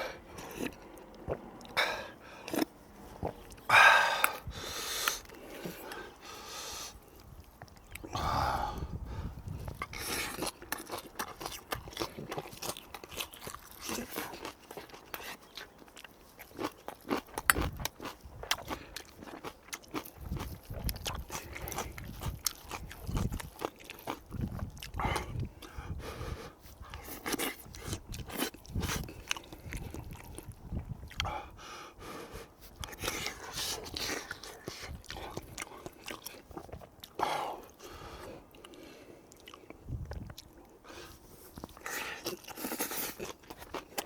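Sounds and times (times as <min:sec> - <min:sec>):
person chewing with wet clicks: 0:00.0 - 0:06.3, 0:06.9 - 0:26.0, 0:26.6 - 0:31.4, 0:32.6 - 0:44.0.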